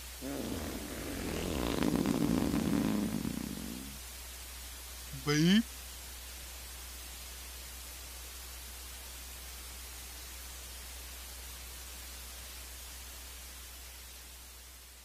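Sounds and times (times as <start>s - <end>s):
low constant hum: 0.0s - 15.0s
static hiss: 0.0s - 15.0s.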